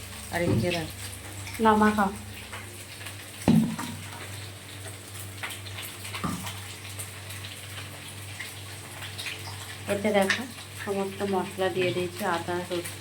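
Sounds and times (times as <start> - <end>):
potatoes sizzling in hot oil: 0.0 - 13.0.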